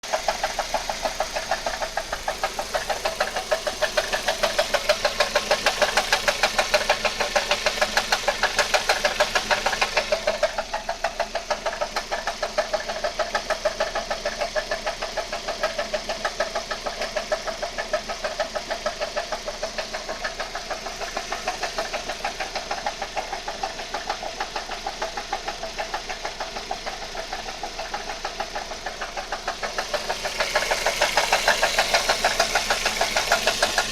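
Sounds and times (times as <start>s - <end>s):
car engine running: 0.0s - 33.9s
regular engine knock: 0.0s - 33.9s.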